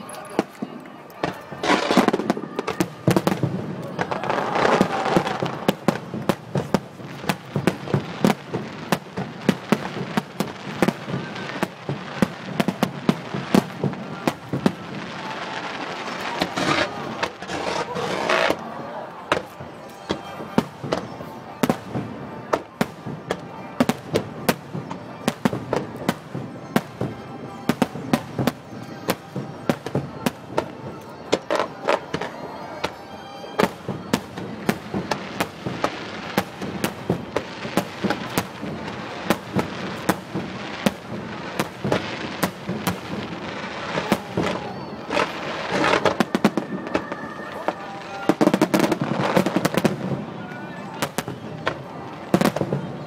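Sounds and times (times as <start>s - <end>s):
fireworks bangs: 0.0s - 53.0s
fireworks crackling rush: 0.0s - 53.0s.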